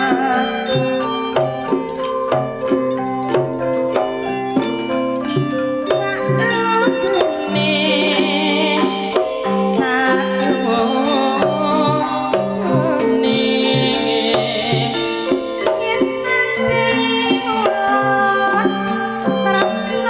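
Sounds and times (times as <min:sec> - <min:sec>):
drum strokes: 0:00.0 - 0:20.0
gamelan ringing pitched notes: 0:00.0 - 0:20.0
wavering high melody line: 0:00.0 - 0:20.0.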